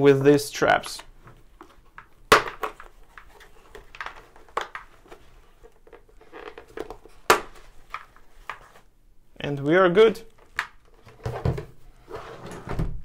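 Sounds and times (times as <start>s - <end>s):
rustling and handling noise: 0.6s - 9.1s, 10.0s - 13.0s.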